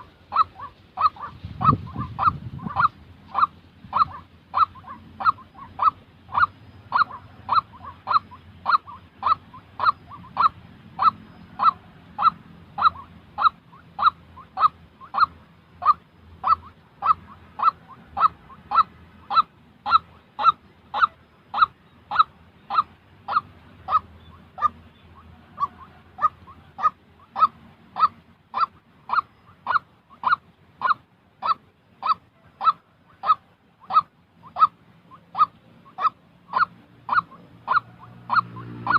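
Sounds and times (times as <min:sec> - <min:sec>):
waterhen honking call: 0:00.0 - 0:38.9.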